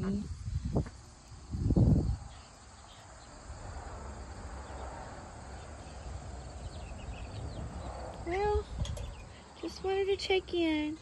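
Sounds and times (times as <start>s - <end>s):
crickets trilling: 0.0s - 10.9s.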